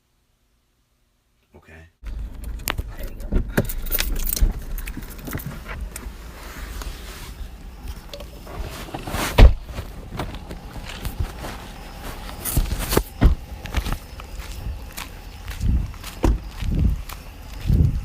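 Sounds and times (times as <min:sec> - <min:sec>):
handling noise: 0:02.0 - 0:18.0
footsteps: 0:02.1 - 0:18.0.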